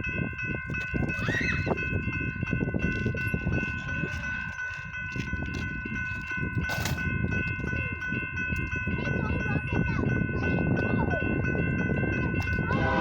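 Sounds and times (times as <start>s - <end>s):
railroad crossing bell ringing: 0.0s - 13.0s
train wheels rumbling and clattering: 0.0s - 13.0s.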